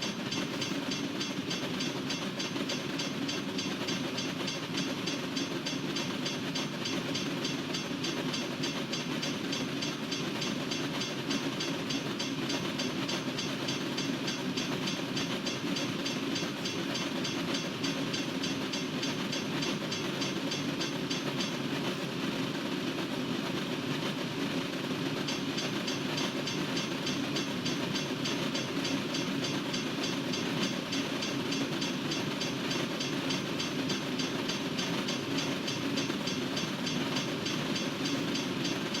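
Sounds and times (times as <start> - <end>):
freight train wheels rumbling on rail: 0.0 - 39.0.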